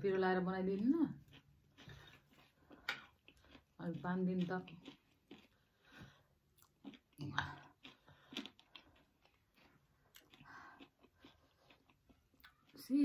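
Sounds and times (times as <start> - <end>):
wet chewing with crunches: 0.0 - 13.0.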